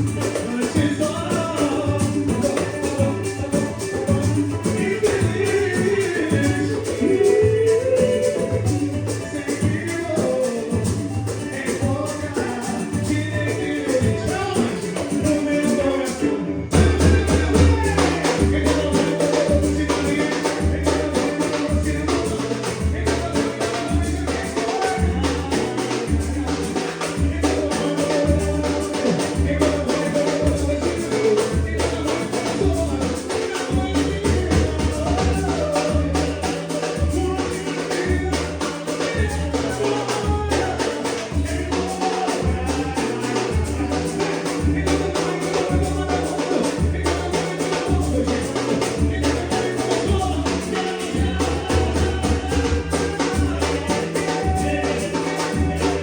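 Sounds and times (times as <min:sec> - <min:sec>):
latin music with singing: 0:00.0 - 0:56.0.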